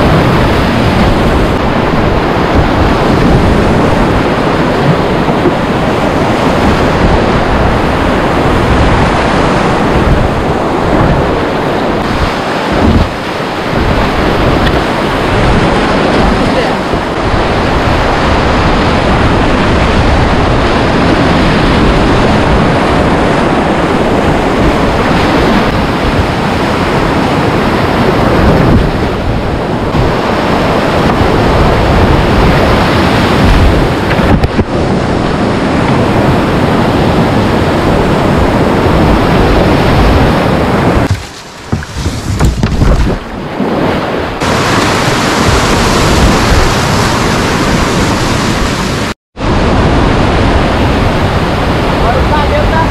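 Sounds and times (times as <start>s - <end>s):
whitewater rapids rushing: 0.0s - 52.9s.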